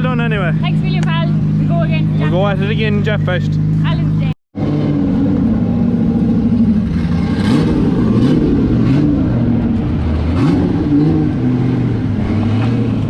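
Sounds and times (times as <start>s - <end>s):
car engine revving: 0.2s - 13.0s.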